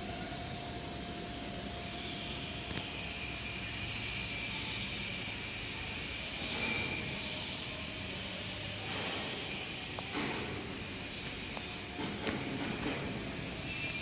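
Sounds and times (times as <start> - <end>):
vacuum truck hiss and whine: 0.0 - 14.0.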